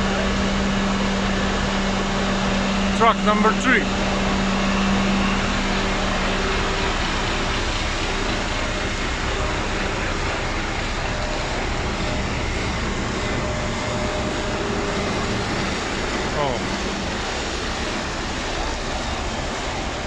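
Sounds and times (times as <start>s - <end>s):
concrete mixer trucks running: 0.0s - 20.0s.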